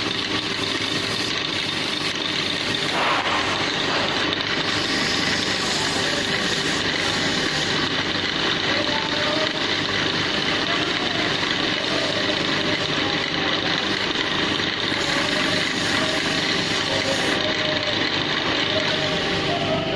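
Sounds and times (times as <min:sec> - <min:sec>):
woodworking lathe running: 0:00.0 - 0:19.9.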